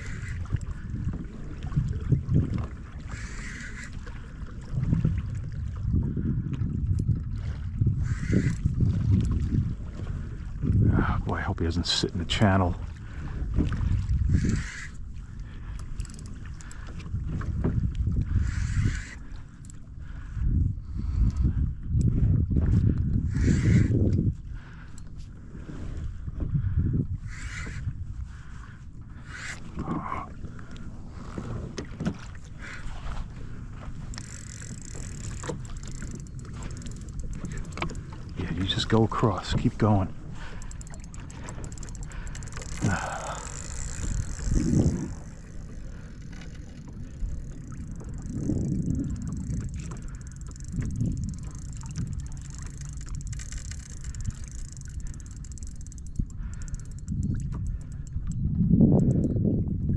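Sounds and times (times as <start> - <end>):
water lapping against hull: 0.0 - 59.9
wind on microphone: 0.0 - 59.9.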